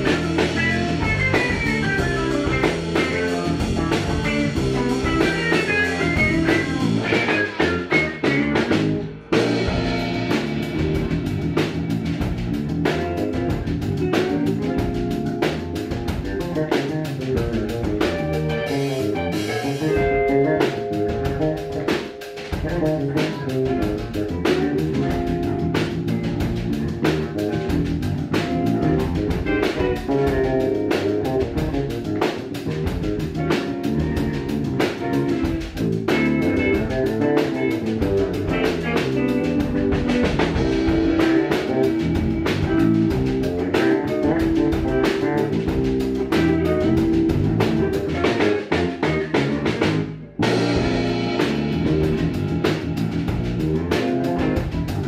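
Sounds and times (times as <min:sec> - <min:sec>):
drum kit: 0:00.0 - 0:55.0
electric bass: 0:00.0 - 0:55.0
electric guitar: 0:00.0 - 0:55.0.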